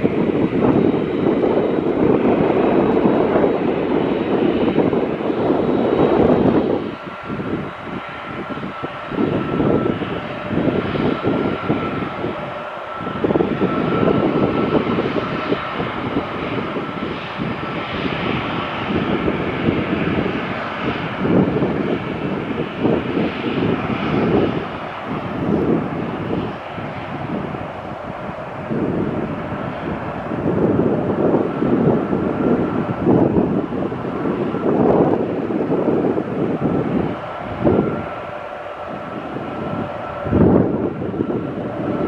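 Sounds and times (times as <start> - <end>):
jet engines whining: 0.0 - 42.0
wind buffeting microphone: 0.0 - 42.0.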